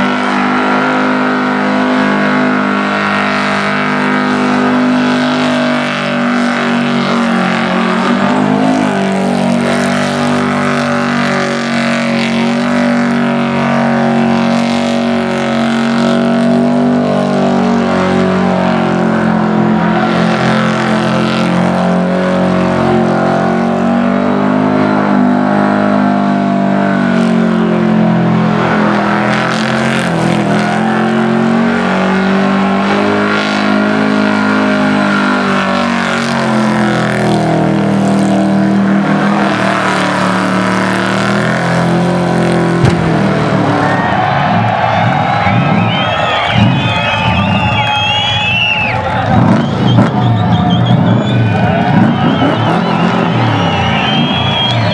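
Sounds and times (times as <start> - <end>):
van engine at high revs: 0.0 - 54.9.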